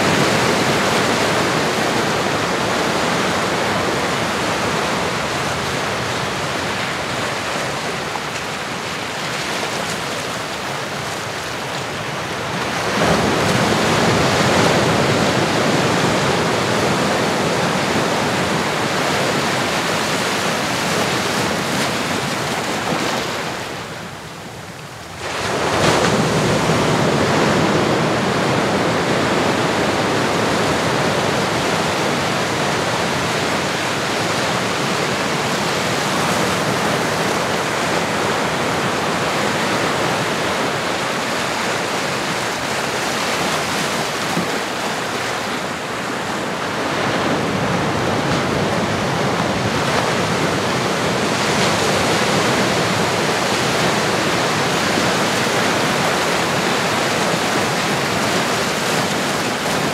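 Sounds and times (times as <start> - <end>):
ocean waves on shore: 0.0 - 59.9.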